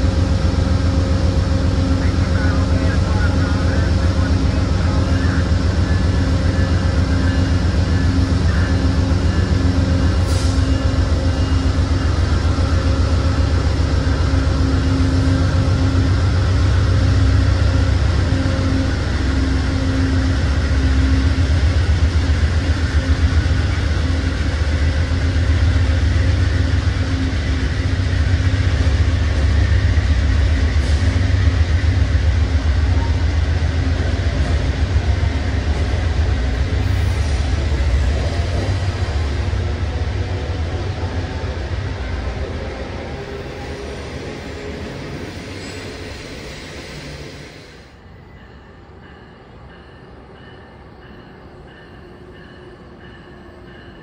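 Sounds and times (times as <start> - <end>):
train cars rolling by: 0.0 - 54.0.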